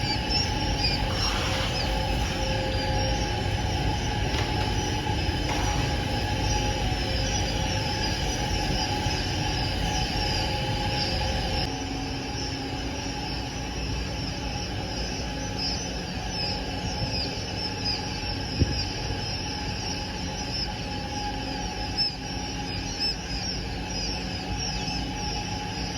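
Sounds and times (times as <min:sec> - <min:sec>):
quail chicks cheeping: 0:00.0 - 0:11.7, 0:12.3 - 0:25.9
steady machine hum: 0:00.0 - 0:25.9.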